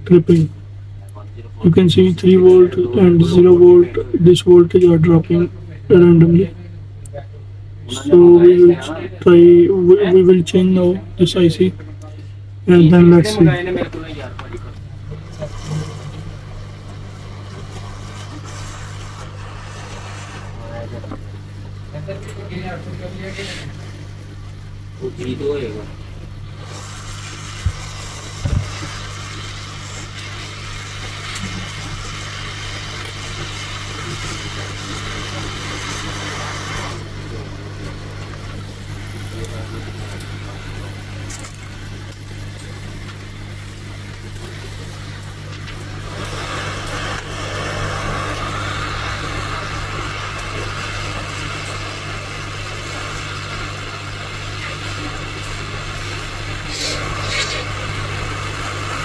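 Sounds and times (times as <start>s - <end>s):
hot-air station hissing air: 0.0s - 59.0s
low electrical hum: 0.0s - 59.0s.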